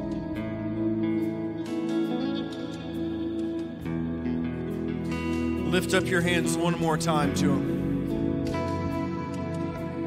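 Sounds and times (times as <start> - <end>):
guitar strums: 0.0 - 10.0
held keyboard chords: 0.0 - 10.0.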